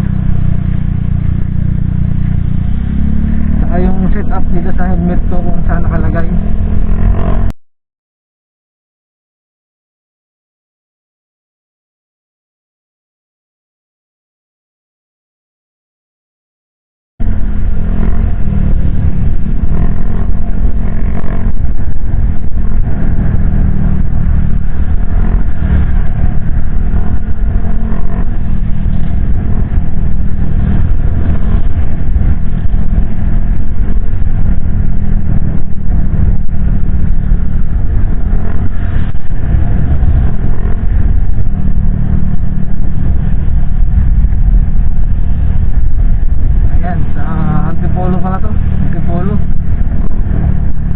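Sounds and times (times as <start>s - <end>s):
motorcycle engine hum: 0.0s - 7.6s, 17.2s - 50.9s
wind and road noise rumble: 0.0s - 7.6s, 17.2s - 50.9s.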